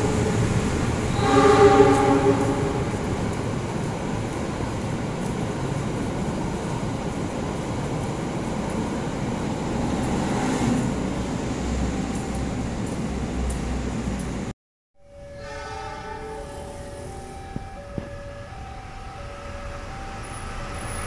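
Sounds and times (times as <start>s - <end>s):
train wheels rumbling on rails: 0.0s - 14.5s, 15.1s - 21.0s.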